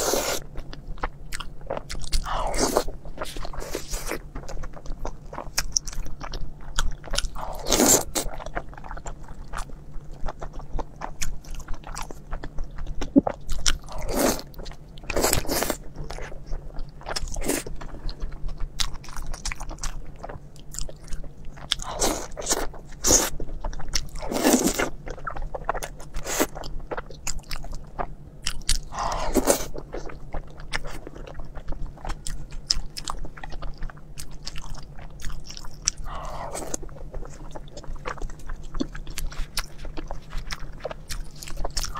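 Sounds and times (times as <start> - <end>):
wet chewing mouth sounds: 0.0 - 41.9.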